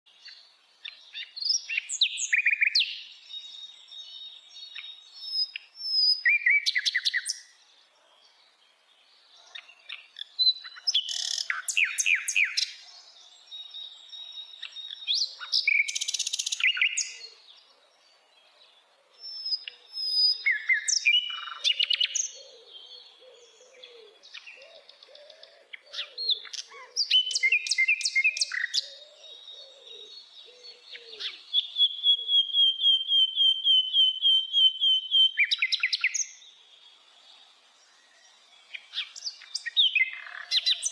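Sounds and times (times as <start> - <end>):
nightingale singing: 0.1 - 40.9.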